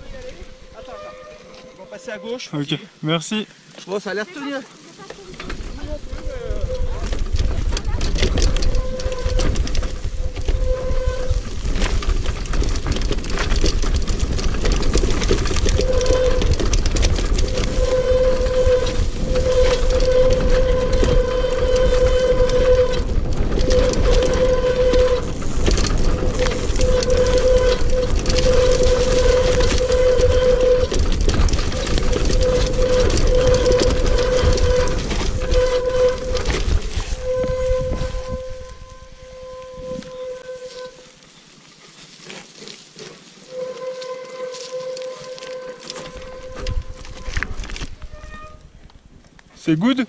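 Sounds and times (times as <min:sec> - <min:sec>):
wheels rumbling on dirt: 0:00.0 - 0:50.0
wheelchair motor whine: 0:05.3 - 0:48.6.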